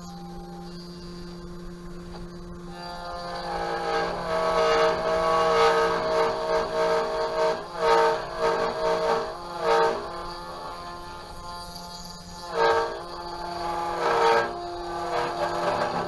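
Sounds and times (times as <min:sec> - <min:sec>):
multi-note horn chord: 0:00.0 - 0:16.0
steady electrical hum: 0:00.0 - 0:16.0.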